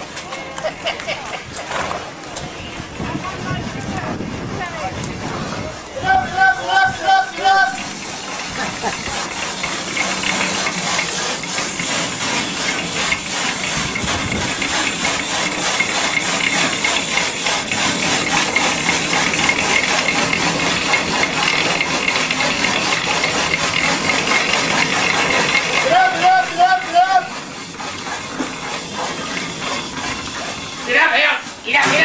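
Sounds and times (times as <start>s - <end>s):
machine running with even beat: 2.3s - 32.0s.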